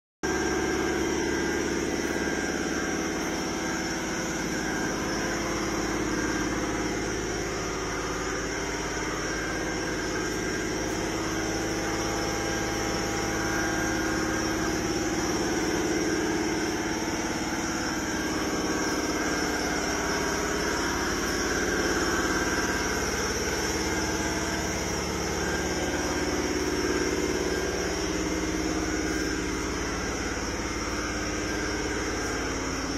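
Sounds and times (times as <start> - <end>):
engine idling: 0.2 - 32.9.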